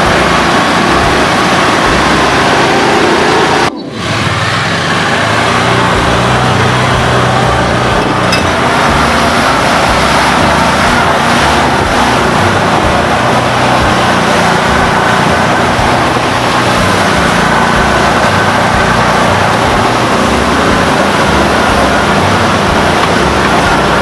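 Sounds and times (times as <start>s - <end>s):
vehicle engine running: 0.0s - 24.0s
water splashing around wheels: 0.0s - 24.0s.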